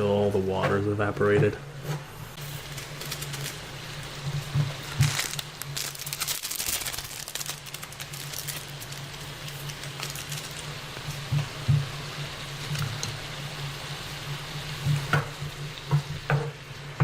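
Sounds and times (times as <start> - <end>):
noodles sizzling and bubbling: 0.0 - 17.0.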